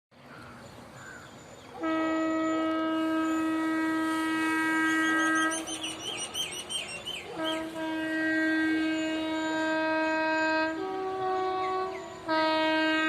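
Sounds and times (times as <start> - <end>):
locomotive horn blast: 1.7 - 13.0.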